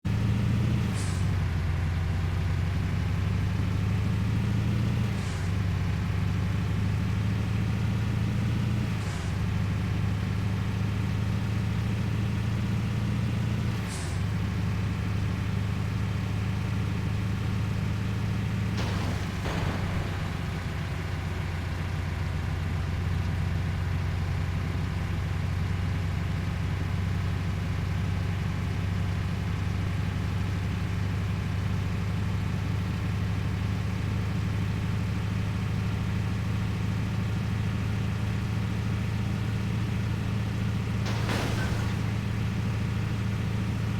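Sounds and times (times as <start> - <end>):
truck engine running: 0.1 - 43.9.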